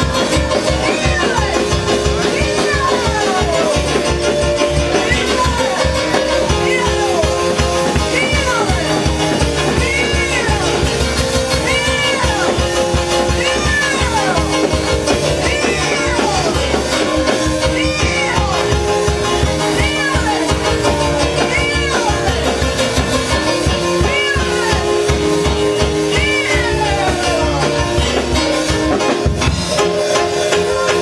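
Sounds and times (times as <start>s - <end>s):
church worship music: 0.0s - 31.0s
drums: 0.0s - 31.0s.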